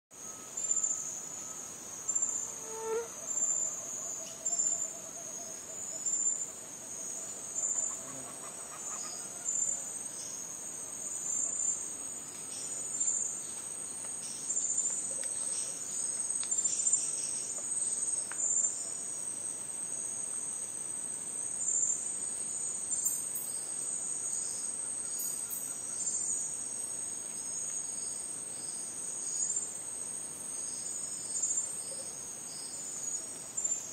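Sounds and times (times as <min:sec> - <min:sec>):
insect chorus: 0:00.1 - 0:33.9.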